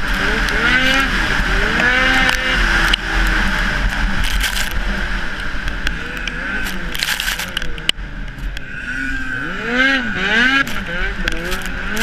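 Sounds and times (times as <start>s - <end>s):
snowmobile engine racing: 0.0s - 12.0s.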